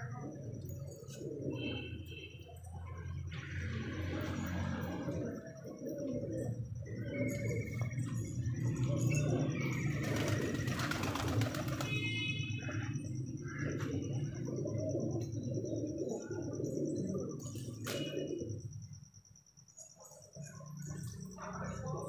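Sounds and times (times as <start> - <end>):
pigeons cooing: 0.0 - 19.2.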